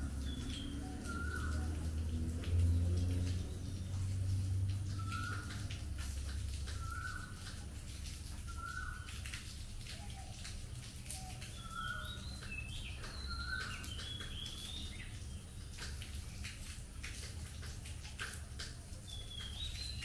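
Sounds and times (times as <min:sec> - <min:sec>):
birds chirping: 0:00.0 - 0:07.7, 0:08.3 - 0:16.6, 0:18.8 - 0:20.0
rain drips ticking: 0:00.0 - 0:20.0.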